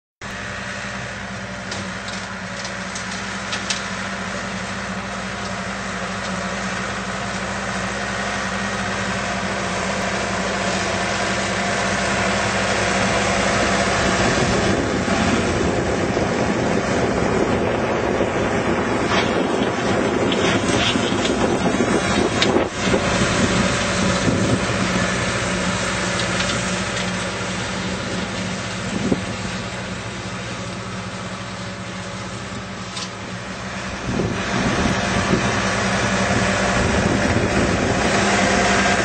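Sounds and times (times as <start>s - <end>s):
flail mower cutting grass: 0.2s - 39.0s
tractor engine running: 0.2s - 39.0s.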